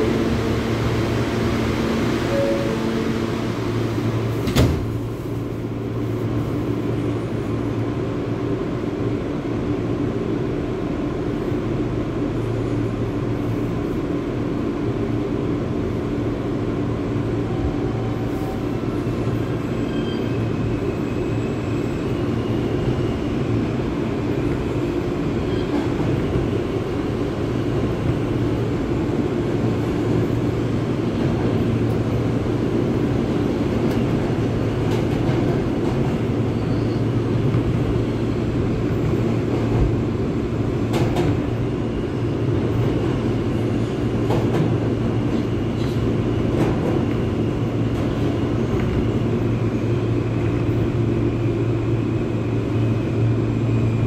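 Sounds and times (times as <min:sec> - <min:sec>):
low drone under train car: 0:00.0 - 0:54.0
train wheels rumbling on rails: 0:00.0 - 0:54.0.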